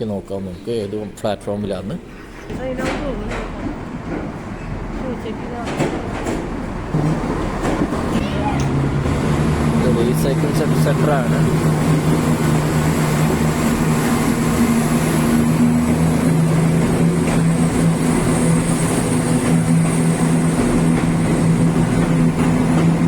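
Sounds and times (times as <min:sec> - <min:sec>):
diesel train engine idling: 0:00.0 - 0:23.0.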